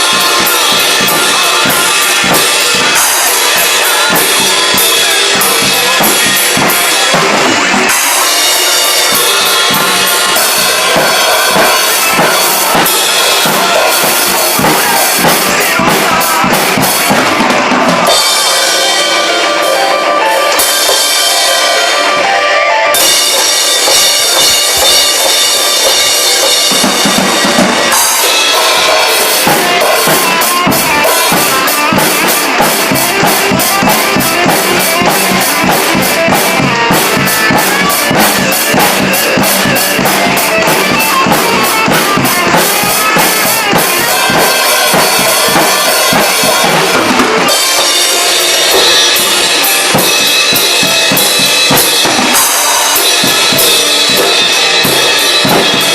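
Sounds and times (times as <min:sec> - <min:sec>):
drum kit playing: 0:00.0 - 0:55.9
recorded song: 0:00.0 - 0:55.9.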